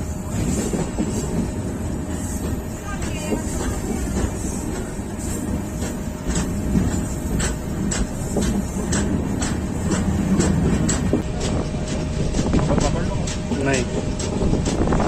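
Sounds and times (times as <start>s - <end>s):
train rumbling on track: 0.0s - 15.0s
wheels clicking on rails: 0.3s - 15.0s.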